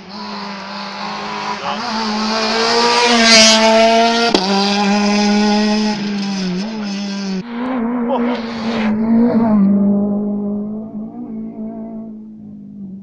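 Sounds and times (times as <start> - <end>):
high-revving engine note: 0.0 - 13.0
rally car engine high revs: 0.0 - 13.0.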